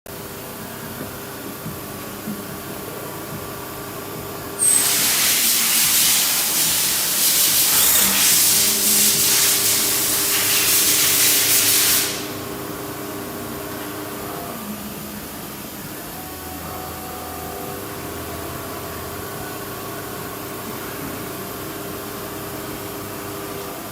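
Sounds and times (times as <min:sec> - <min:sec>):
machine low hum: 0:00.1 - 0:10.6, 0:11.2 - 0:23.9
loud steady hiss: 0:00.2 - 0:23.9.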